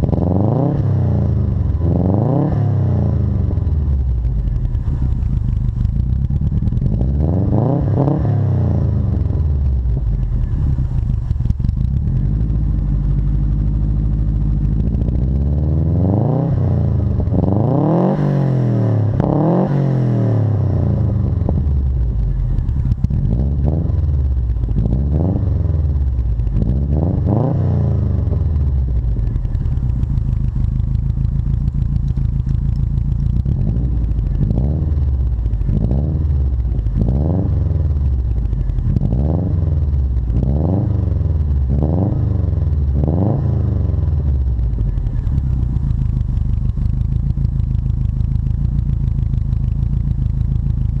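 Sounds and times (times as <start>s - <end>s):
car engine idling: 0.0s - 51.0s
car engine revving: 0.0s - 51.0s.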